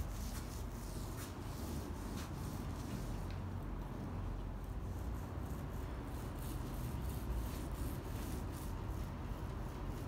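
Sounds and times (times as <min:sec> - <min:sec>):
paint roller swishing: 0:00.0 - 0:03.4, 0:04.6 - 0:10.0.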